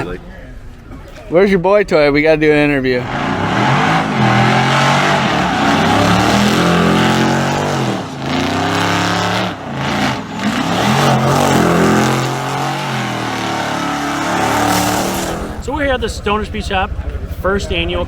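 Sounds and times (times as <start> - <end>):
car engine revving: 2.4 - 18.0.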